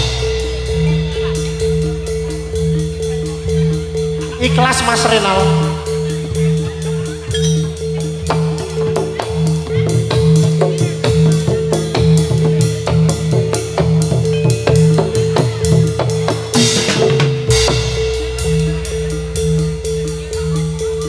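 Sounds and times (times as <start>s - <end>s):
fast drum strokes: 0.0s - 21.0s
percussion ensemble music: 0.0s - 21.0s.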